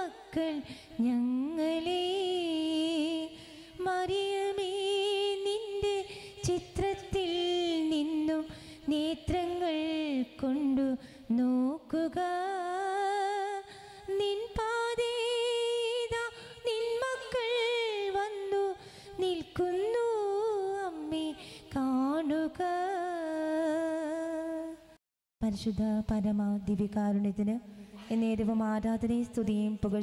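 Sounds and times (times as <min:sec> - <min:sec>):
woman singing a hymn: 0:00.0 - 0:24.8.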